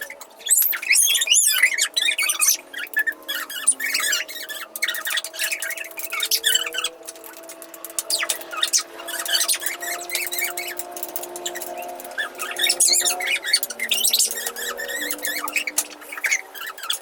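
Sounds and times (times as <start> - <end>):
high squeaky chirps: 0.0 - 17.0.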